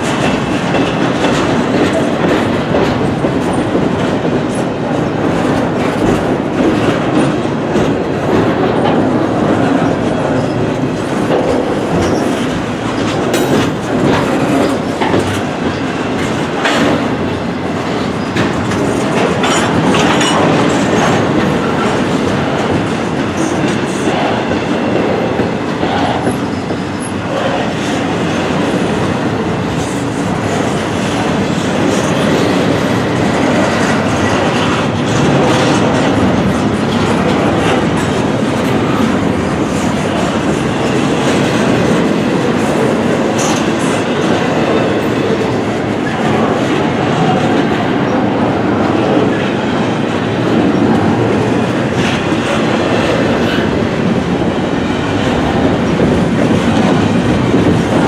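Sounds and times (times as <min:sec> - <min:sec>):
freight train rolling past: 0:00.0 - 0:58.0
sharp clicks of train wheels: 0:00.0 - 0:58.0.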